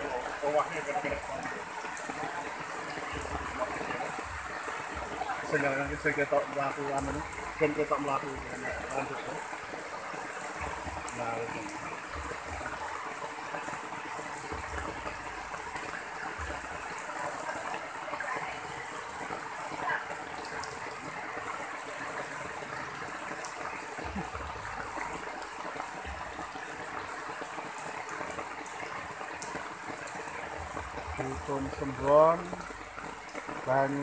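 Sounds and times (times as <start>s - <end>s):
floodwater rushing: 0.0s - 34.0s.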